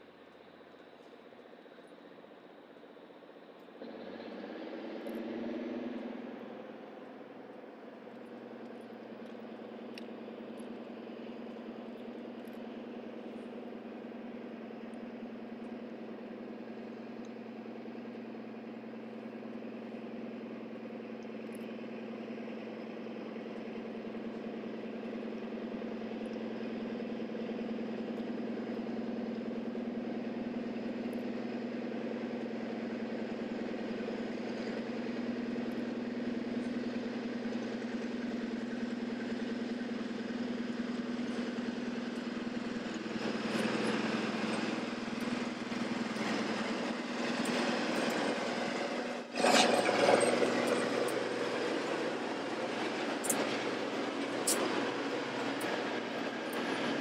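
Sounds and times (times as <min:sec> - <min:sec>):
diesel locomotive engine droning: 0:00.0 - 0:57.0.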